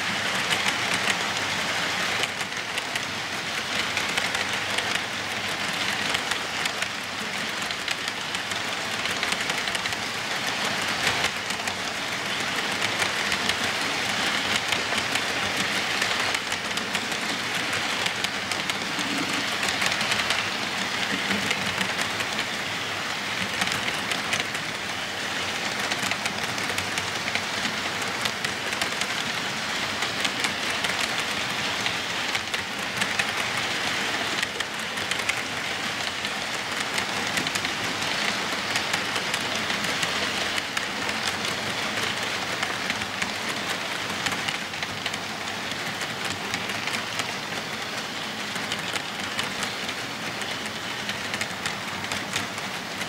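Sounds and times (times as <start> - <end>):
model train wheels rattling: 0.0 - 53.0.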